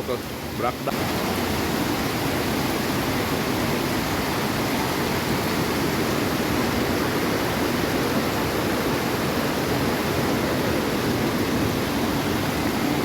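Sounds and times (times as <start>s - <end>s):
water rushing in torrent: 0.0s - 13.0s.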